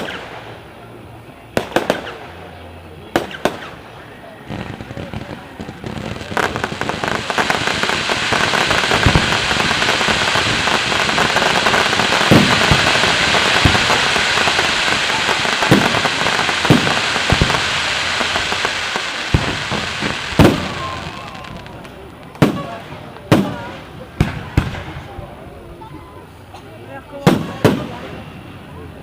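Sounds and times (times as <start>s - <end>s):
fireworks booming: 0.0s - 25.6s, 27.2s - 28.8s
fireworks crackling: 0.0s - 29.0s.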